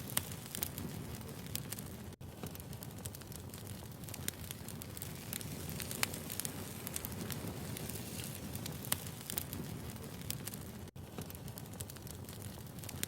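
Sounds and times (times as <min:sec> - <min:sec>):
firewood crackling and popping: 0:00.0 - 0:13.0
low rumble of flames: 0:00.0 - 0:13.0.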